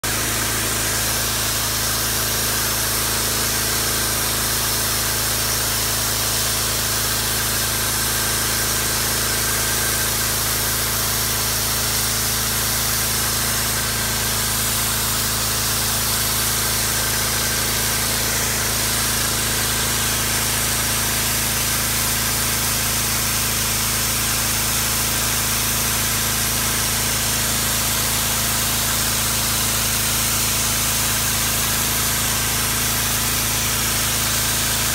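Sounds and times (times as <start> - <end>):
high-pressure spray hissing on concrete: 0.0 - 34.9
pressure washer running: 0.0 - 34.9.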